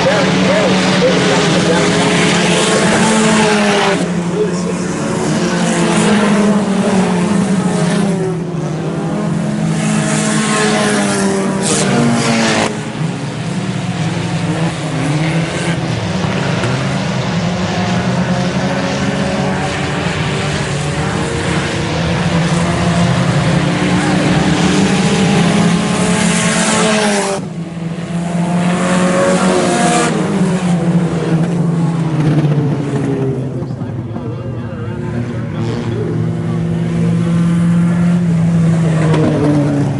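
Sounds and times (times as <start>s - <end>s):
race car engines revving: 0.0s - 39.9s.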